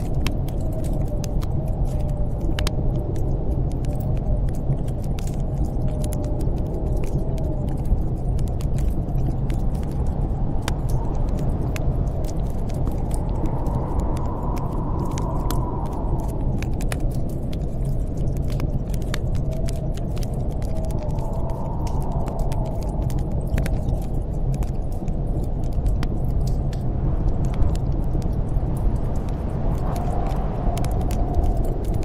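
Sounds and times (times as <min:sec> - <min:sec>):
storm wind roaring: 0:00.0 - 0:32.0
wood fire crackling and popping: 0:00.0 - 0:32.0.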